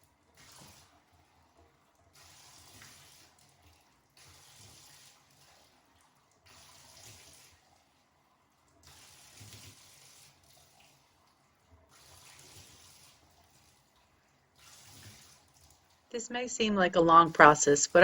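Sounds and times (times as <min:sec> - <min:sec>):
faint running water: 0:00.0 - 0:18.0.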